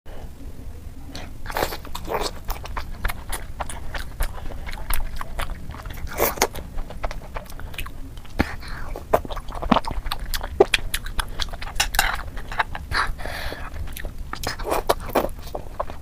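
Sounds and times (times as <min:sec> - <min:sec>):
mouth clicks and smacks: 0:01.2 - 0:16.0
person biting and chewing: 0:01.2 - 0:16.0.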